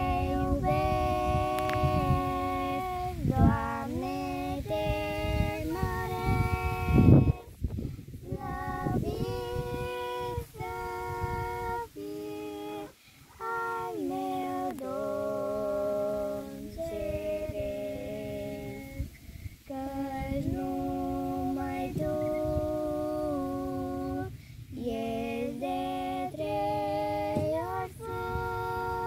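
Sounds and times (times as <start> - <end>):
woman singing unaccompanied: 0.0 - 7.6, 8.2 - 29.0.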